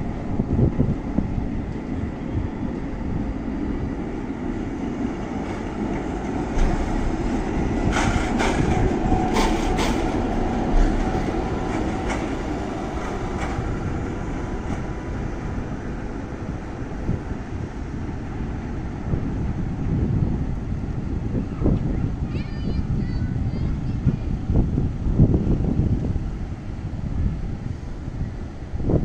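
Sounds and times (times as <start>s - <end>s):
tram wheels rumbling on rails: 0.0s - 29.0s.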